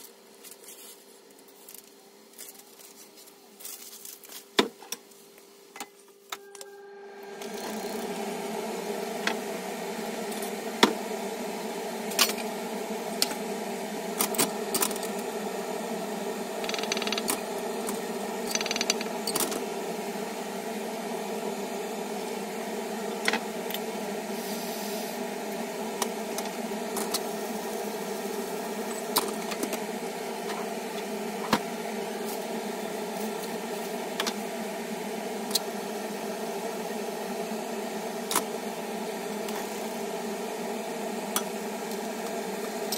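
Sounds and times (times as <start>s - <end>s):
steady hum: 5.6s - 42.9s.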